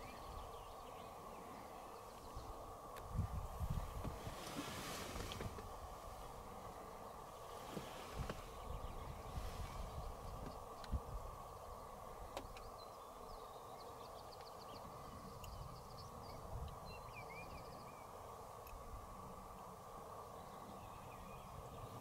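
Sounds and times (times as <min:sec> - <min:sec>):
small birds chirping: 0:00.0 - 0:04.2, 0:05.6 - 0:22.0
steady hiss: 0:00.0 - 0:22.0.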